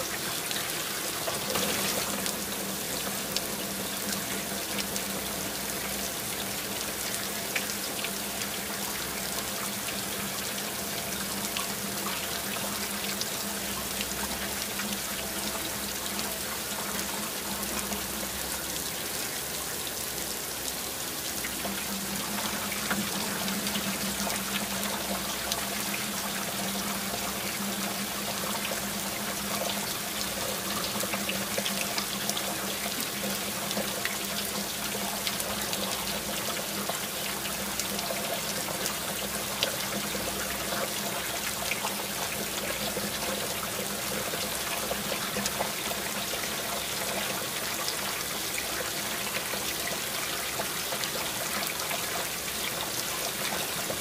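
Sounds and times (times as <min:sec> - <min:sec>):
heavy rain falling: 0:00.0 - 0:54.0
water trickling: 0:00.0 - 0:54.0.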